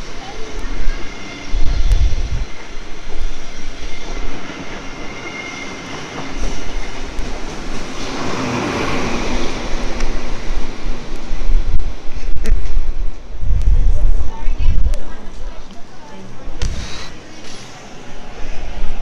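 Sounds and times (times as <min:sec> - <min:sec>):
train wheels on track: 0:00.0 - 0:19.0.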